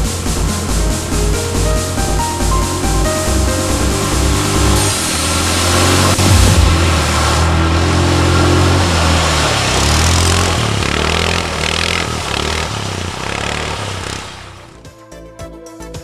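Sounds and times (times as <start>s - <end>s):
quad bike engine revving: 0.0s - 14.8s
water and mud splashing: 0.0s - 14.8s.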